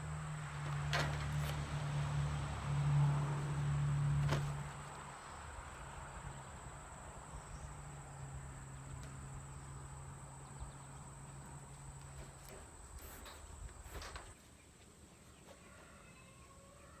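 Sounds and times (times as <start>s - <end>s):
insects trilling: 0.0s - 14.3s.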